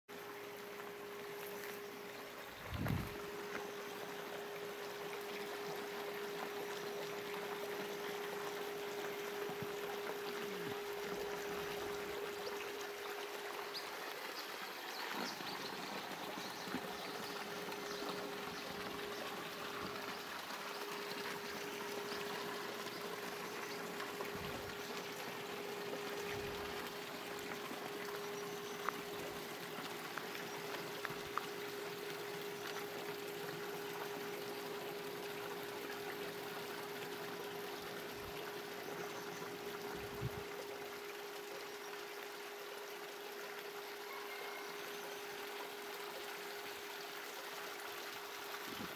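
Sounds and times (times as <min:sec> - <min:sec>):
stream trickling over rocks: 0:00.1 - 0:48.9.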